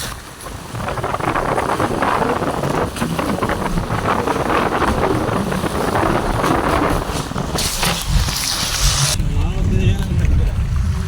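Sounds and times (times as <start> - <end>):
floodwater rushing: 0.0 - 11.0
wind buffeting microphone: 0.0 - 11.0.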